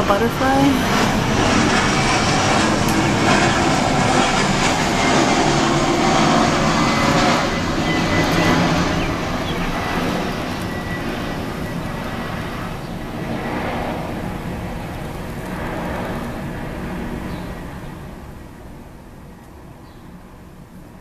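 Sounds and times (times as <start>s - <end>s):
airliner jet flying over: 0.0s - 21.0s.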